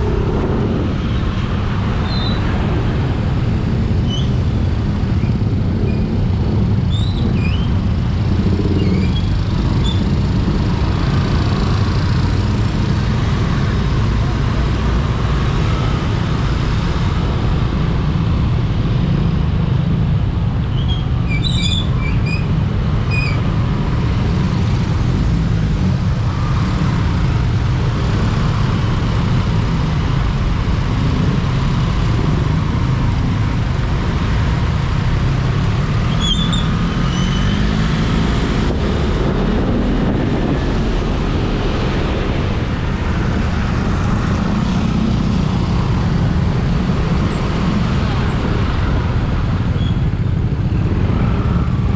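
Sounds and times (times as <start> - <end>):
motorcycle road and wind noise: 0.0 - 51.9.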